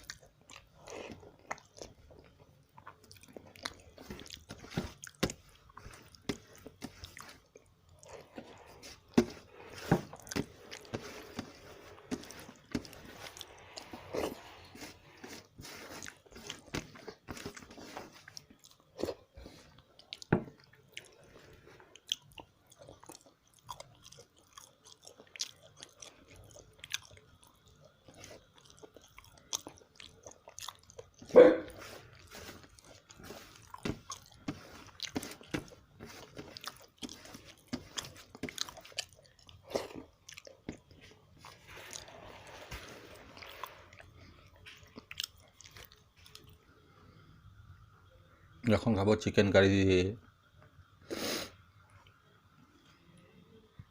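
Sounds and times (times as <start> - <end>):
person chewing food: 0.0 - 46.7.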